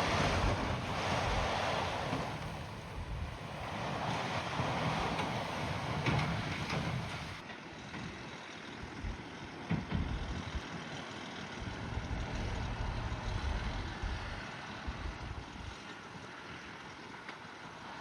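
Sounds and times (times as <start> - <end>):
diesel engine rumbling: 0.0 - 16.8.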